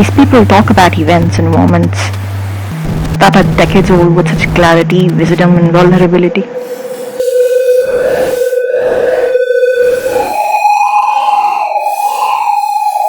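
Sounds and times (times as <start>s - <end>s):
rhythmic pulses of noise: 0.0s - 13.0s
steady synthesized tone: 0.0s - 13.0s.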